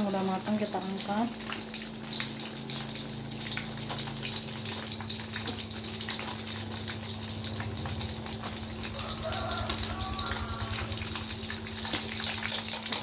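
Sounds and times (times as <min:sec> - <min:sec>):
hot oil sizzling in a wok: 0:00.0 - 0:13.0.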